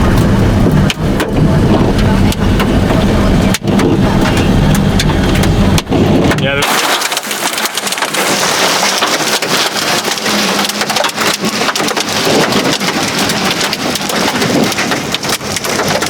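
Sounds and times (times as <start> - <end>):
heavy rain pelting down: 0.0 - 16.0.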